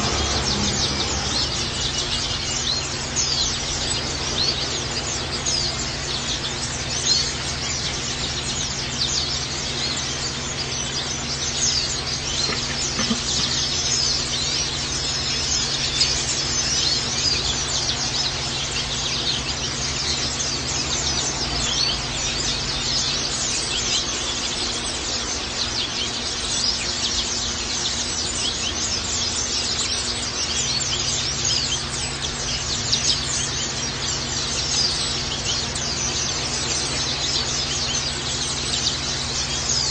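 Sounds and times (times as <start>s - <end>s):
birds twittering in rapid high chirps: 0.0s - 39.9s
steady low hum: 0.0s - 39.9s.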